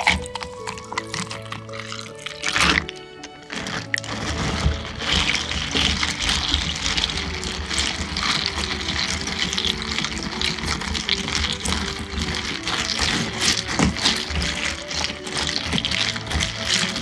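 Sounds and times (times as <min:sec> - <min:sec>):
ice clinking in plastic cup: 0:00.0 - 0:17.0
liquid sloshing: 0:00.0 - 0:17.0.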